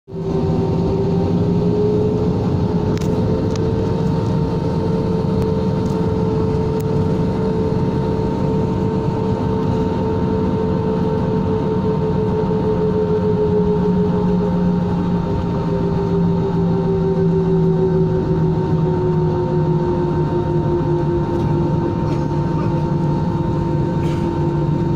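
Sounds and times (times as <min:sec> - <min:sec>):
jet engines whining: 0:00.1 - 0:24.9.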